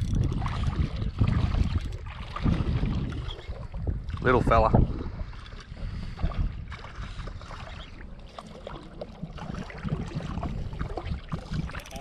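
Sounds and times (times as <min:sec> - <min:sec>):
wind buffeting microphone: 0:00.0 - 0:08.2, 0:09.2 - 0:12.0
shallow water splashing: 0:00.0 - 0:12.0.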